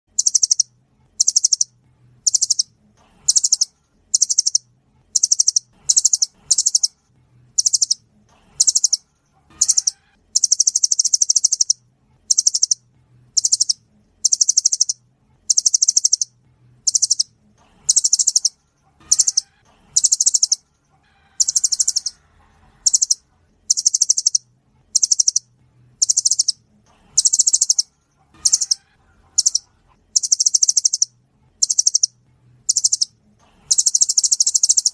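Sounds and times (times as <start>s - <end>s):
nuthatch song: 0.1s - 34.9s.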